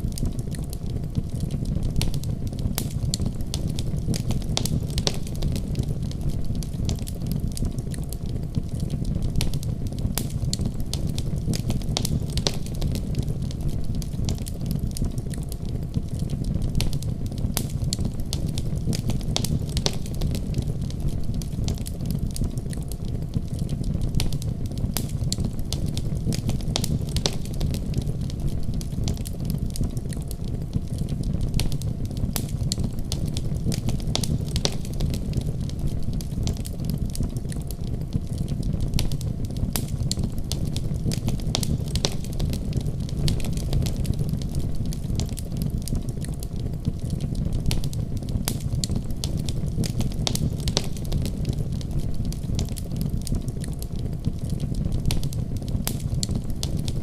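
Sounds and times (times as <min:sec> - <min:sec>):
fire crackles and pops: 0:00.0 - 0:57.0
fire flames rumbling: 0:00.0 - 0:57.0.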